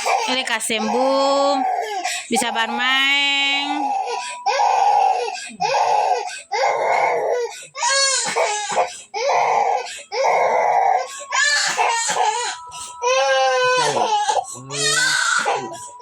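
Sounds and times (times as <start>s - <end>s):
small child crying: 0.0s - 2.7s, 3.5s - 16.0s.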